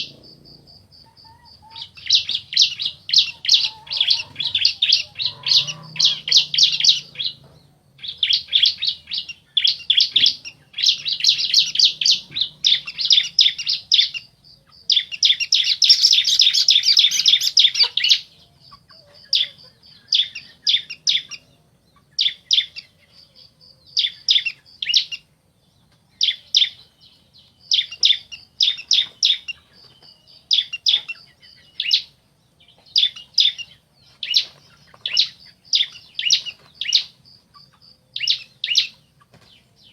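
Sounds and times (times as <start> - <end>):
birds trilling calls: 0.0 - 39.9.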